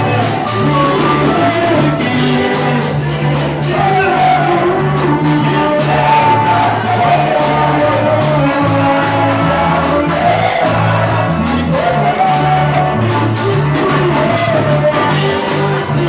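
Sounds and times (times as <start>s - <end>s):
band playing: 0.0s - 16.0s
bass line held notes: 0.0s - 16.0s
voices singing worship song: 0.0s - 16.0s.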